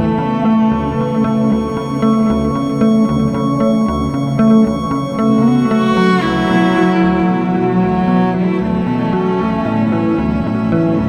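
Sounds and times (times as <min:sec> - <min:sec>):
plucked guitar music with bass: 0:00.0 - 0:11.0.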